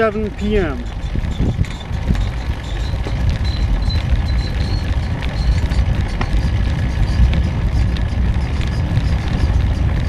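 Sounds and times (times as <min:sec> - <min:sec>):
road and rolling noise: 0:00.0 - 0:10.0
wind buffeting the microphone: 0:00.0 - 0:10.0.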